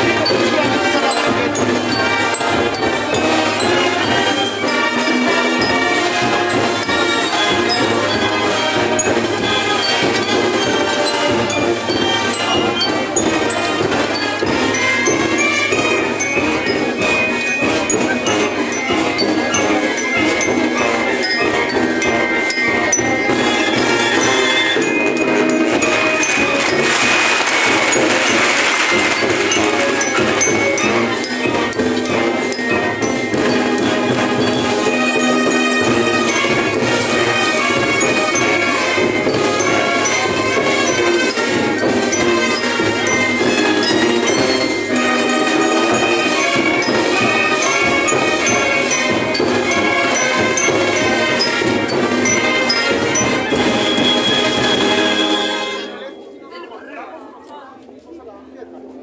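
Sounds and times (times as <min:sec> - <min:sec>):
brass band playing: 0:00.0 - 0:56.1
percussion beat: 0:00.0 - 0:56.1.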